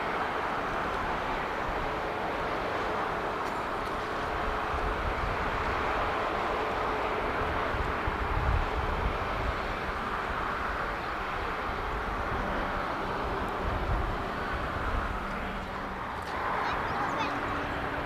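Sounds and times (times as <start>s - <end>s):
jet airliner engines running: 0.0s - 18.0s.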